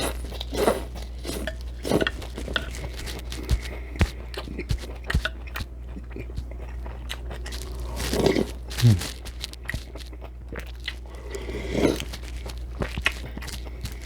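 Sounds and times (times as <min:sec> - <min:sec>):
close chewing: 0:00.0 - 0:14.0
steady low hum: 0:01.4 - 0:14.0.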